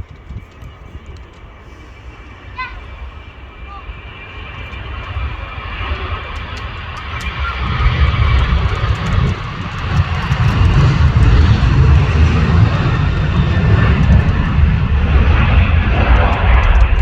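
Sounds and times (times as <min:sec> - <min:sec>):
airplane engines taking off: 0:00.0 - 0:17.0.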